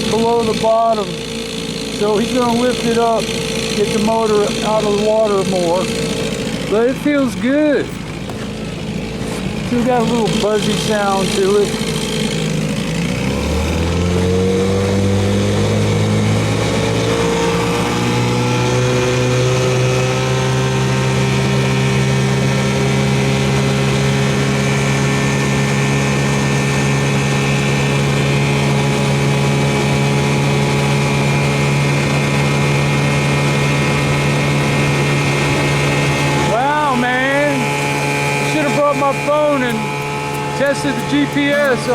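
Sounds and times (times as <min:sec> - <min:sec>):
outboard motor speeding up: 0:00.0 - 0:41.9.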